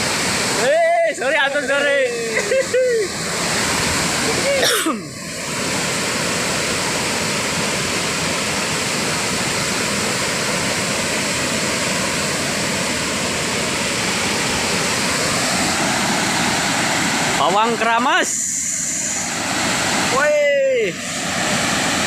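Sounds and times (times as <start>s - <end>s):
fast-flowing water rushing: 0.0s - 22.0s.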